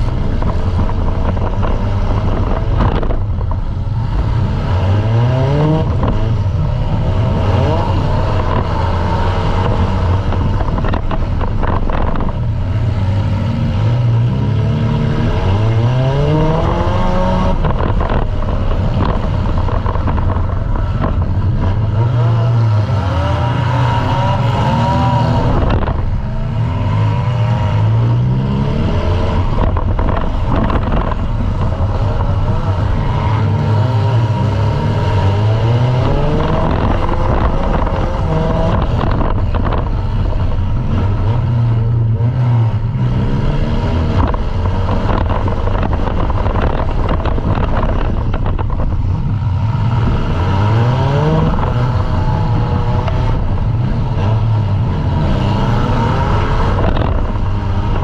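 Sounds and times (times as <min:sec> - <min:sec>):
car engine revving: 0:00.0 - 0:58.0
engine and chassis rattle: 0:00.0 - 0:58.0.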